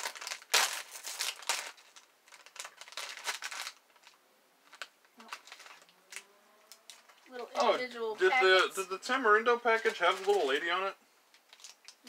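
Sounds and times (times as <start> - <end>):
plastic packaging crinkling: 0.0 - 8.9, 9.7 - 12.0.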